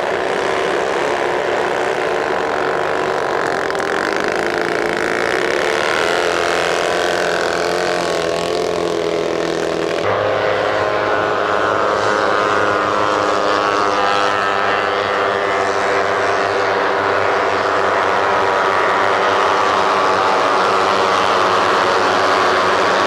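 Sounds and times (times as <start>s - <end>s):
racing outboard engines at speed: 0.0s - 23.0s.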